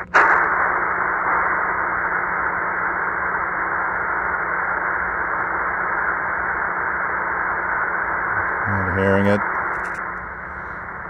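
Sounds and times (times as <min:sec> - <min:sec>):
faint low hum: 0:00.0 - 0:11.0
radio static hiss: 0:00.0 - 0:11.0.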